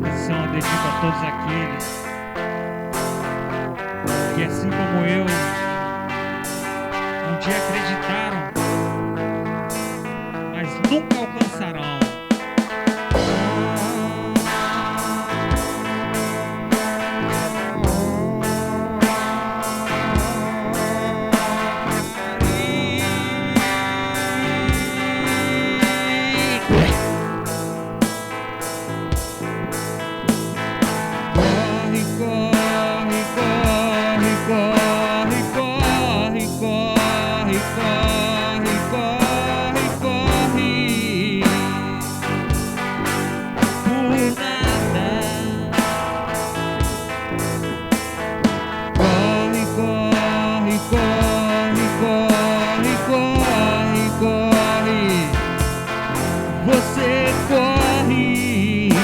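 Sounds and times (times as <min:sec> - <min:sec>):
person singing: 0:00.0 - 0:02.4, 0:03.0 - 0:59.0
guitar: 0:00.0 - 0:59.0
steady drum beat: 0:04.1 - 0:05.8, 0:09.7 - 0:59.0.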